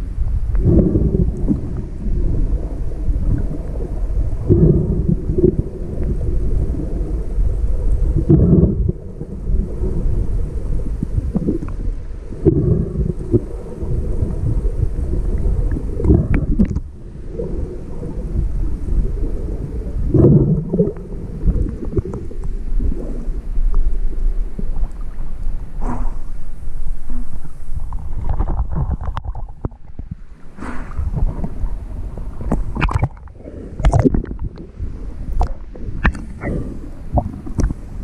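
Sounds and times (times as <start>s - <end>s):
muffled underwater rumble and sloshing: 0.0s - 38.0s.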